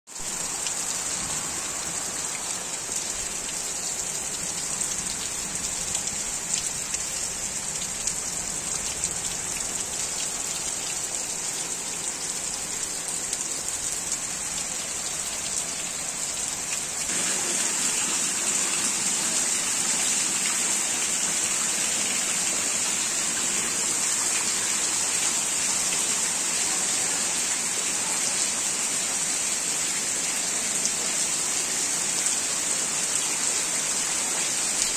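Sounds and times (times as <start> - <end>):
torrential rain pattering: 0.1 - 34.9.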